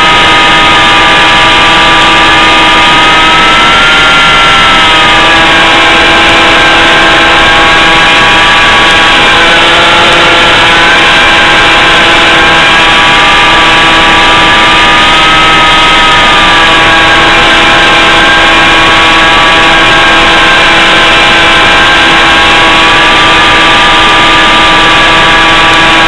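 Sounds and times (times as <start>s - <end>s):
loud steady rushing noise: 0.0s - 26.0s
model plane electric motor whining: 0.0s - 26.0s.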